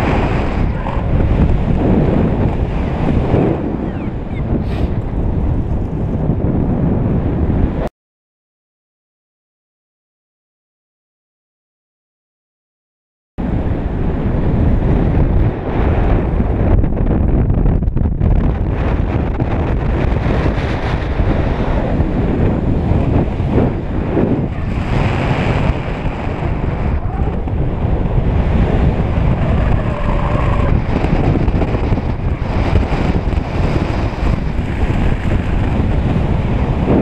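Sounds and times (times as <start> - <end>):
wind buffeting microphone: 0.0 - 7.9, 13.4 - 37.0.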